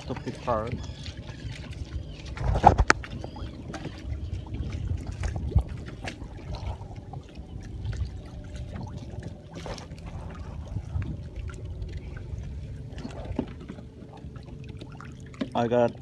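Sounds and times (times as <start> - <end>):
waves lapping against plastic hull: 0.0 - 16.0.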